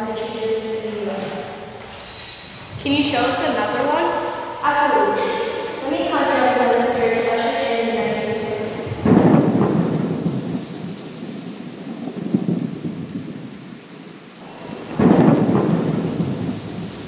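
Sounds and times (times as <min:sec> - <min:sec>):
rain: 0:00.0 - 0:17.0
thunder rumbling: 0:00.0 - 0:17.0.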